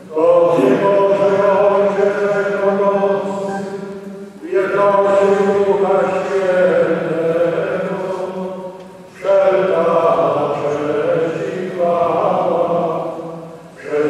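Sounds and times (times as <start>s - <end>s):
voices singing a hymn: 0.0s - 14.0s.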